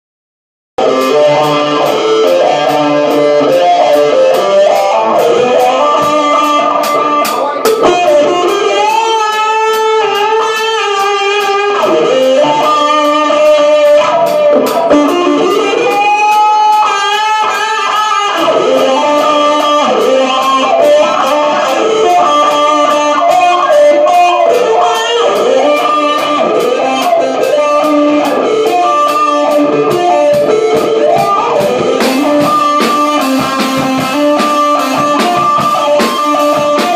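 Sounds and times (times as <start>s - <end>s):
drum kit beat on cymbals: 0.8s - 36.9s
electric guitar lead lines: 0.8s - 36.9s.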